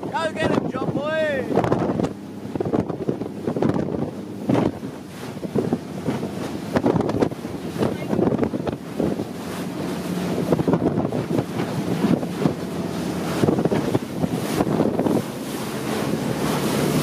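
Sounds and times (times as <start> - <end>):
churning water: 0.0 - 17.0
low engine drone: 0.0 - 17.0
wind buffeting microphone: 0.0 - 17.0.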